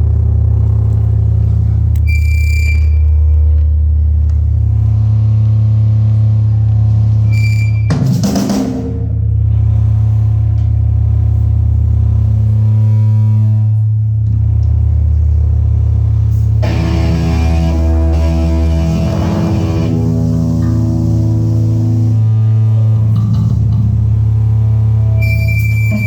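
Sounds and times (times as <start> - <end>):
bass-heavy music: 0.0 - 26.0.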